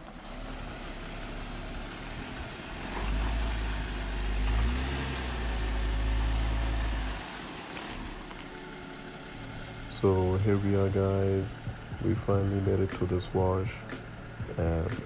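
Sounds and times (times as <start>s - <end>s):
vehicle engine working under load: 0.0s - 15.0s.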